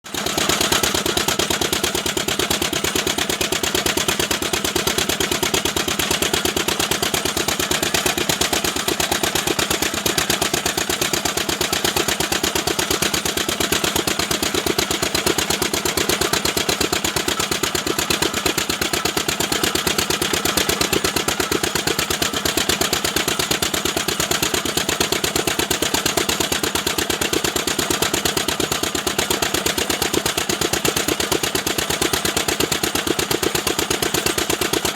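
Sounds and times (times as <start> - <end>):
machine engine knocking: 0.0 - 34.9.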